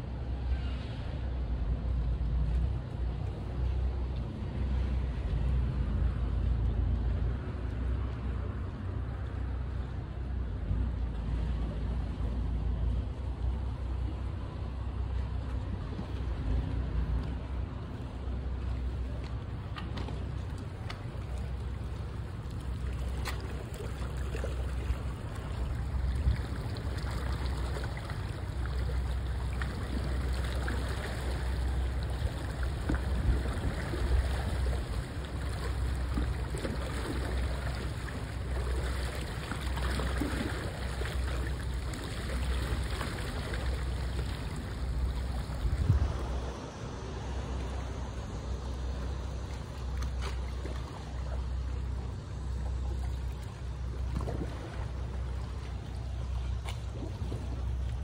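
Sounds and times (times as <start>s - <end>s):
water lapping and trickling: 0.0s - 58.0s
wind rumble on microphone: 0.0s - 58.0s.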